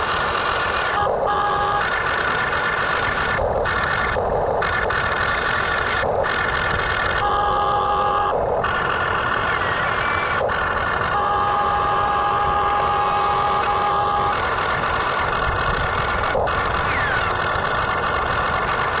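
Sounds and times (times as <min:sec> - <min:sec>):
excavator machine hum: 0:00.0 - 0:19.0
steady whine: 0:00.0 - 0:19.0.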